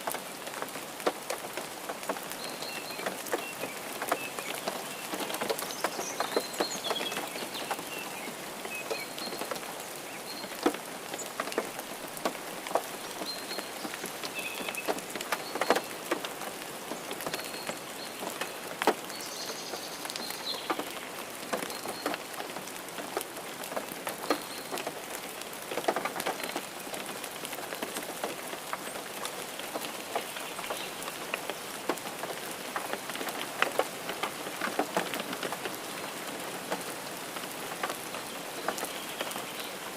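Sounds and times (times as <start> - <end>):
rain on hard surface: 0.0 - 39.9.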